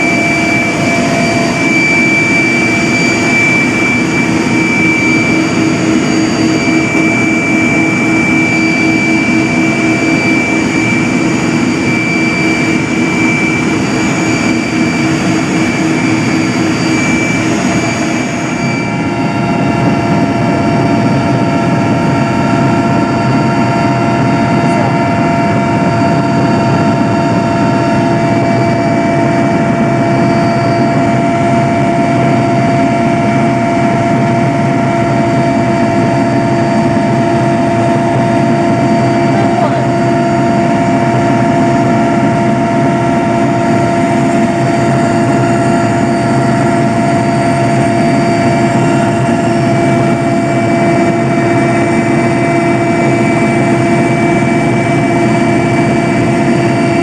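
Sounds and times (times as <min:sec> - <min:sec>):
helicopter turbine whine and rumble: 0:00.0 - 0:57.0.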